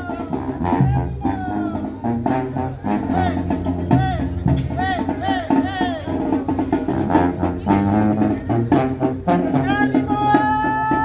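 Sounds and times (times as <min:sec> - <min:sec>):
brass band playing dance music: 0:00.0 - 0:11.0.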